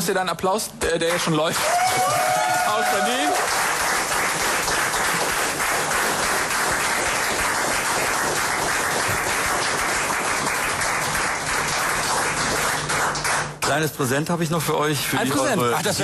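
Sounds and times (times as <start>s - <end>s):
applause: 1.0s - 13.9s.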